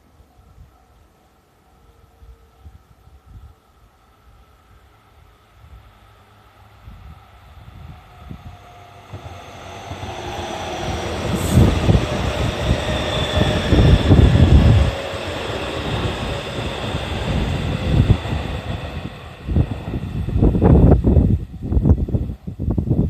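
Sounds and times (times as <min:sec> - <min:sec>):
electric train passing: 0:00.1 - 0:23.0.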